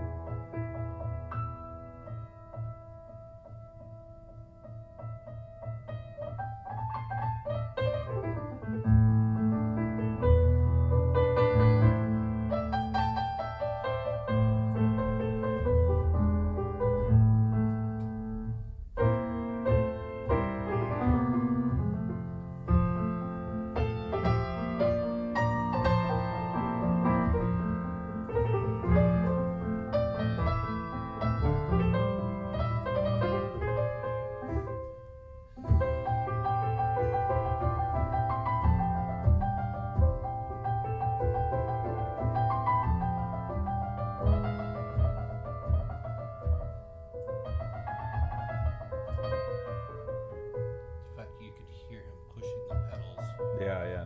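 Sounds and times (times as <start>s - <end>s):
solo piano over loudspeakers: 0.0s - 54.0s.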